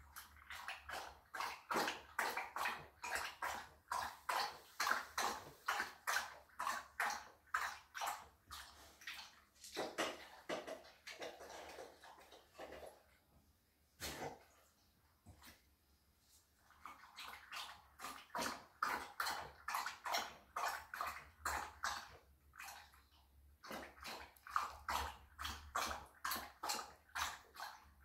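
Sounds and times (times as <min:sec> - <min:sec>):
dog lapping water from bowl: 0:00.0 - 0:15.6, 0:16.6 - 0:28.0.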